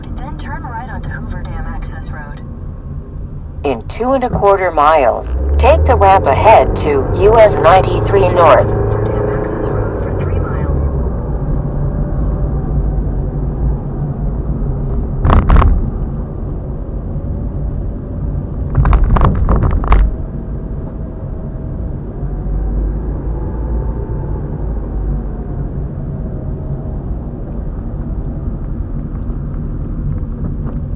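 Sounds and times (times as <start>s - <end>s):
car road and engine rumble: 0.0s - 30.9s.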